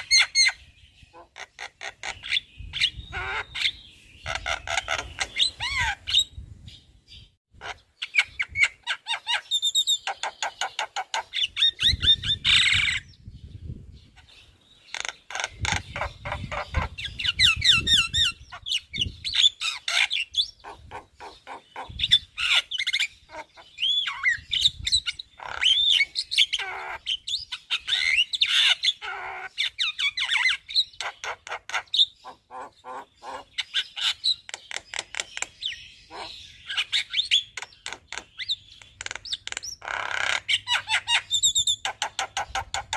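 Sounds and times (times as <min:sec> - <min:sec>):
myna bird singing: 0:00.0 - 0:42.9.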